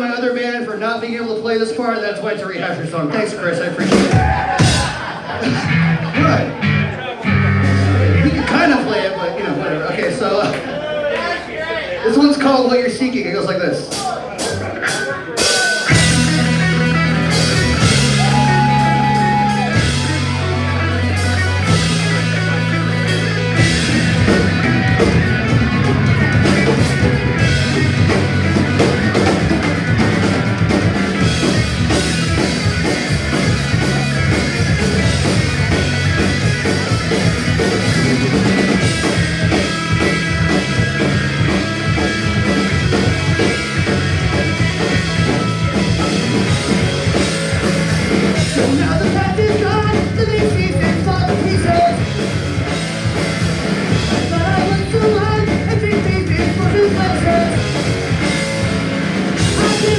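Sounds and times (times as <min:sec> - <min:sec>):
distorted electric guitars: 0:02.3 - 0:09.2, 0:13.9 - 0:59.9
drum kit: 0:03.2 - 0:08.7, 0:13.9 - 0:59.9
bass guitar: 0:03.6 - 0:09.0, 0:13.9 - 0:59.9.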